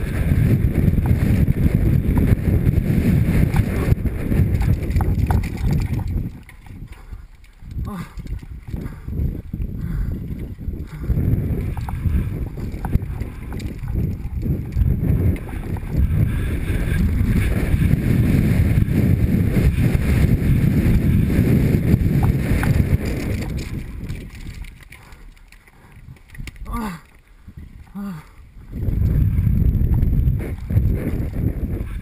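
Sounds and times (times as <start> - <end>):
bike clattering over bumps: 0.0 - 28.0
bike tyre noise: 0.0 - 32.0
wind rumbling on microphone: 0.0 - 32.0.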